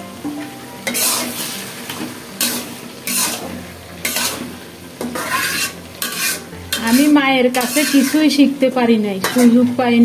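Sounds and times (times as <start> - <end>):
food sizzling in pan: 0.0 - 10.0
metal spatula scraping pan: 0.8 - 8.6, 9.2 - 9.8.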